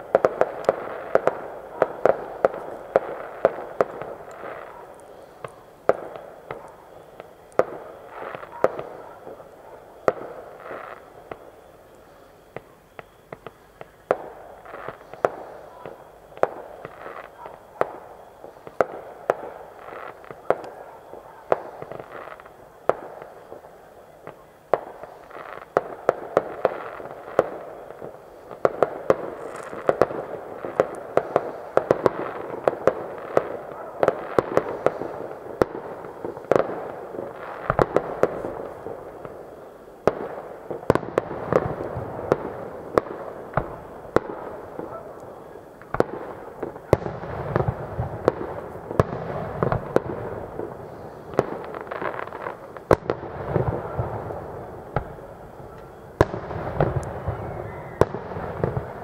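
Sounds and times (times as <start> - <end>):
continuous crackle: 0.0 - 59.0
deep fireworks booms: 0.0 - 59.0
fireworks pops and bangs: 0.0 - 59.0.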